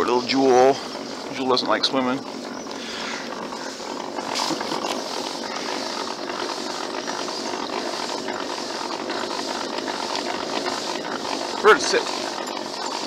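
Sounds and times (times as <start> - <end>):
pedal drive whirring: 0.0 - 13.0.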